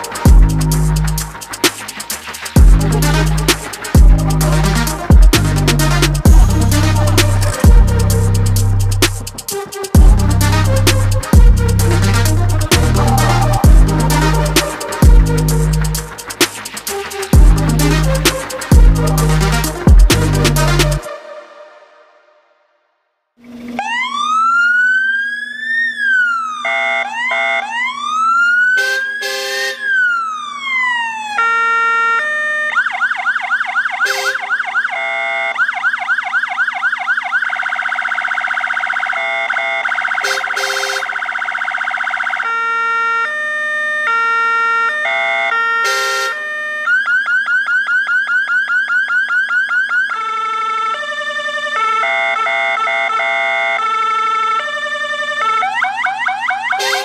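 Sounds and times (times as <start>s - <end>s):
electronic siren wailing and yelping: 0.0s - 22.3s, 23.5s - 57.0s.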